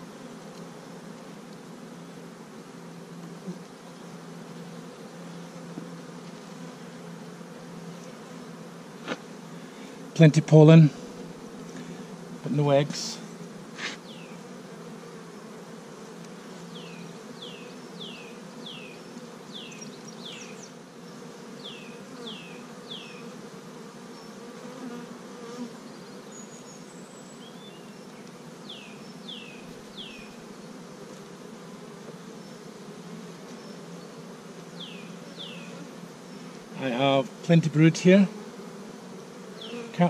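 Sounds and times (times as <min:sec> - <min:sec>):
bees buzzing: 0:00.0 - 0:40.0.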